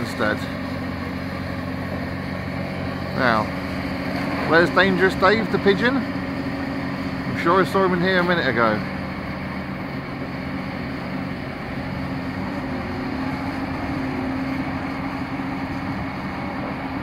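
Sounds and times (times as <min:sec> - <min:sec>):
machinery engine humming: 0:00.0 - 0:17.0.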